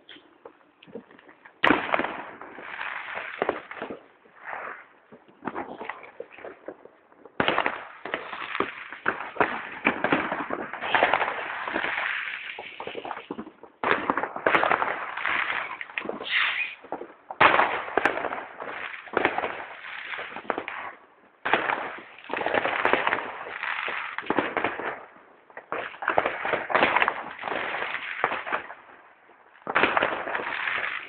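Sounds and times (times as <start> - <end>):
fireworks crackling: 0.0 - 31.0
fireworks popping and banging: 0.0 - 31.0.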